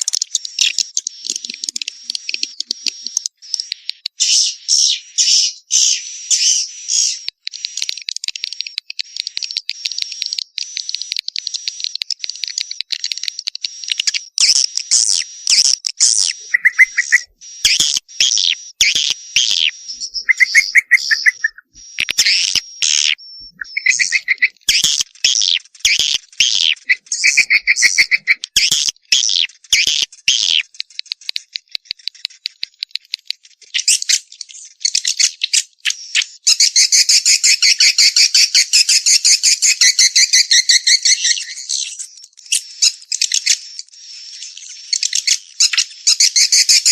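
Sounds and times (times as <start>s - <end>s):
swiftlet chirps and twitters: 0.0s - 30.7s, 33.7s - 46.9s.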